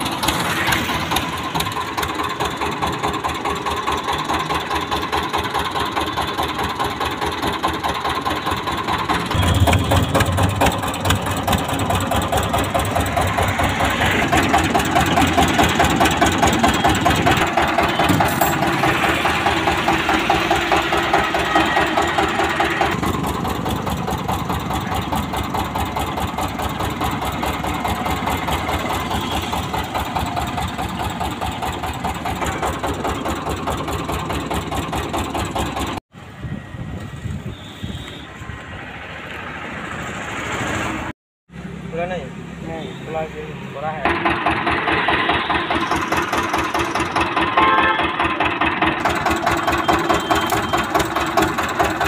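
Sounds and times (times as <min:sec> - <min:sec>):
diesel engine chugging: 0:00.0 - 0:36.0, 0:41.9 - 0:52.0.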